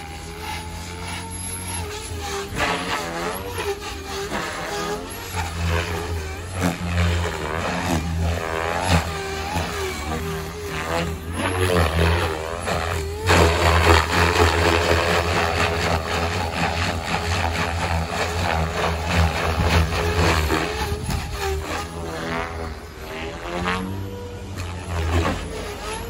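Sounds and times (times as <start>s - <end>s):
rc helicopter rotor whine: 0.0s - 26.0s.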